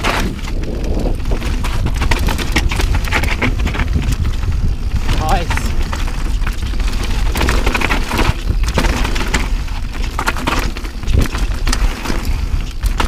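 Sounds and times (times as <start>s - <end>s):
bike rattling: 0.0s - 13.0s
tyres crunching over loose rock: 0.0s - 13.0s
wind rumble on microphone: 0.0s - 13.0s.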